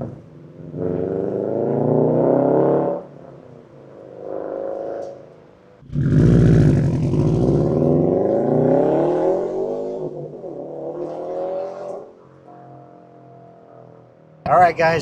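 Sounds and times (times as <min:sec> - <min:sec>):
car engine accelerating: 0:00.0 - 0:13.5.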